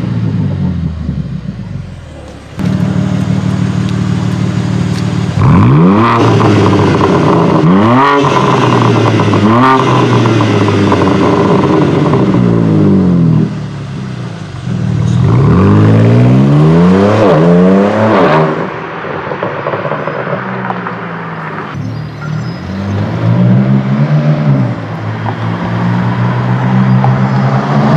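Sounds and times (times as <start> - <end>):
car engine accelerating hard: 0.0 - 18.8, 19.5 - 27.9.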